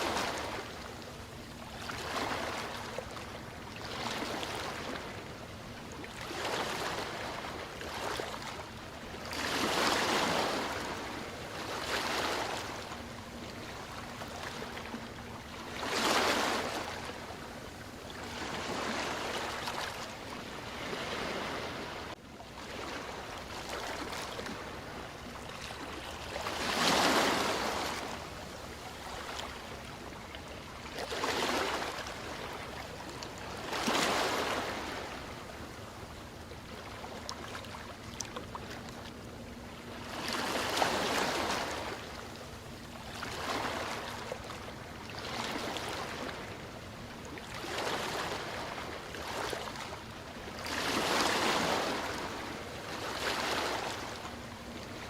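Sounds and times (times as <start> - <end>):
ocean waves washing in: 0.0 - 38.7, 39.6 - 55.0.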